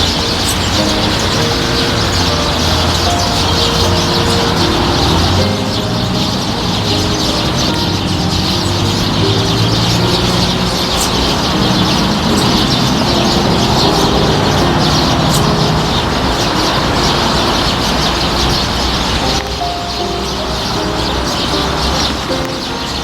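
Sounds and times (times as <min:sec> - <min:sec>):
flock of sparrows chirping: 0:00.0 - 0:23.0.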